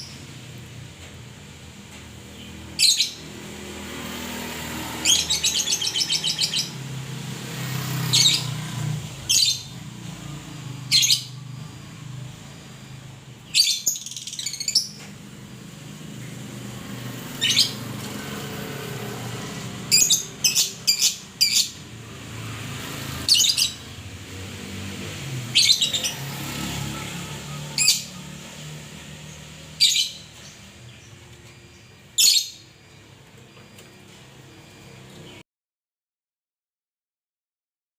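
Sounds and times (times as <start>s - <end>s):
songbird chirping: 1.9s - 35.4s.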